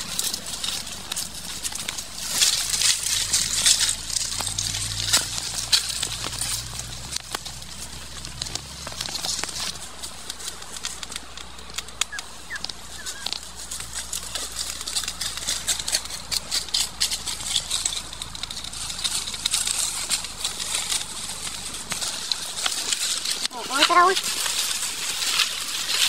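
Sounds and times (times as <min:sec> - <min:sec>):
branches breaking: 0:00.0 - 0:26.0
dry leaves and twigs crackling: 0:00.0 - 0:26.0.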